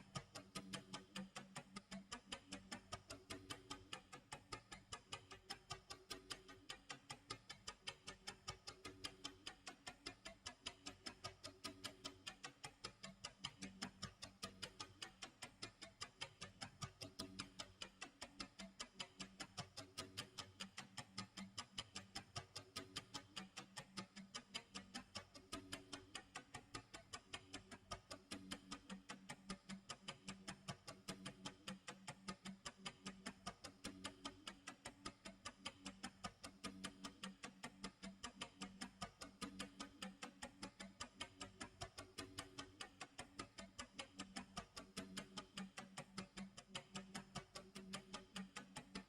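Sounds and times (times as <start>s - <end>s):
clock ticking: 0.0s - 49.0s.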